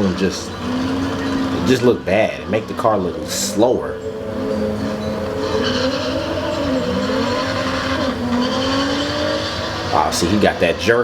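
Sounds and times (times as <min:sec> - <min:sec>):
racing car engines accelerating: 0:00.0 - 0:11.0
tire and wind hiss: 0:00.0 - 0:11.0.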